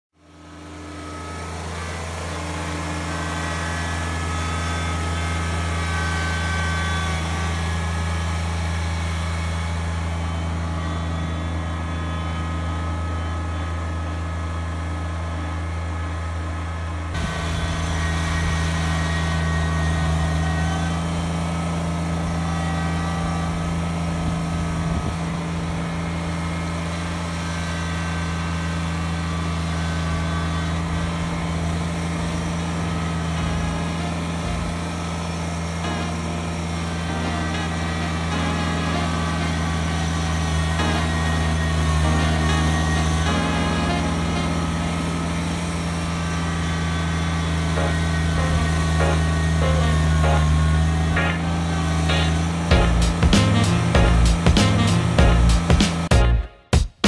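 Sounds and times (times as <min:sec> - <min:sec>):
tractor diesel engine running: 0:00.1 - 0:56.7.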